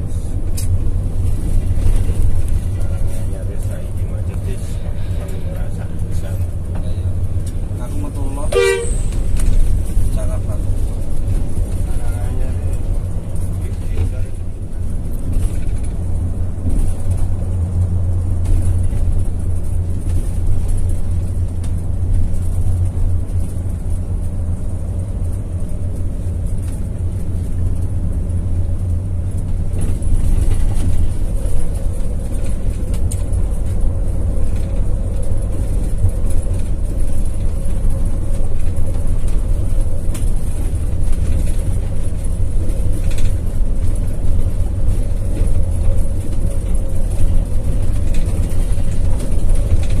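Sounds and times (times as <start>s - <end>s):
bus engine and road rumble: 0.0s - 50.0s.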